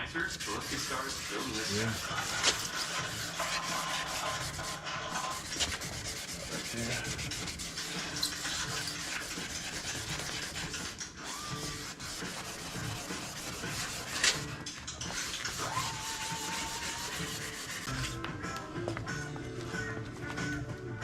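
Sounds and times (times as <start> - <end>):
rubbing and scraping: 0.0 - 18.2.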